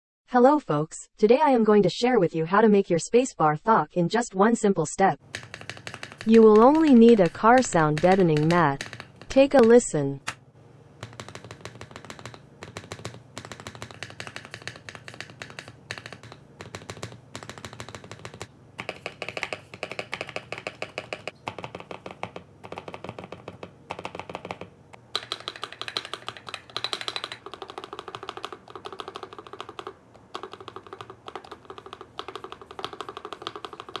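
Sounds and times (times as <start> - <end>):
mechanical keyboard typing: 5.2 - 10.3, 11.0 - 34.0.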